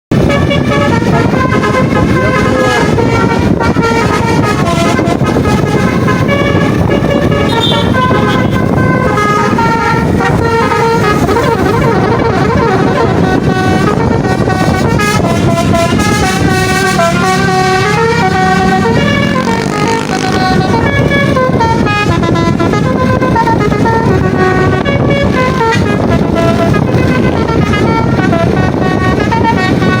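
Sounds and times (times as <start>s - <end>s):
bus engine rumble: 0.1s - 30.0s
multi-tone bus horn tune: 0.1s - 30.0s
road noise: 0.1s - 30.0s.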